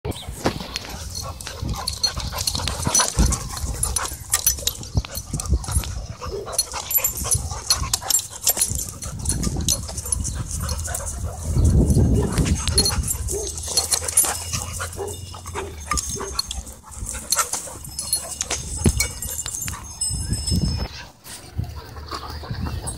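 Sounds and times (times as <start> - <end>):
dogs scuffling with knocks: 0.2 - 22.9
dogs vocalising: 0.2 - 22.9.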